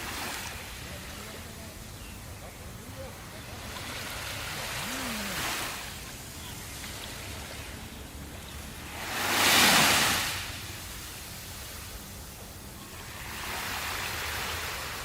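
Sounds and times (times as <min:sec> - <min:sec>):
ocean waves washing: 0:00.0 - 0:15.0.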